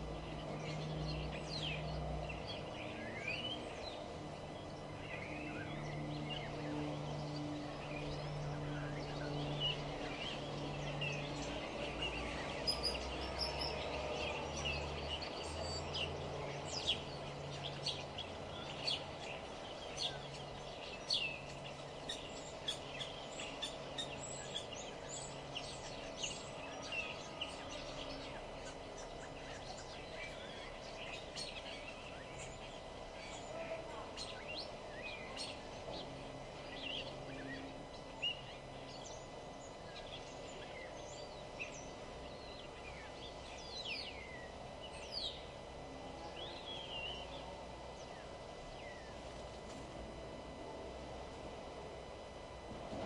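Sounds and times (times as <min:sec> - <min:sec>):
low background hum: 0:00.0 - 0:53.0
songbirds chirping: 0:00.0 - 0:53.0.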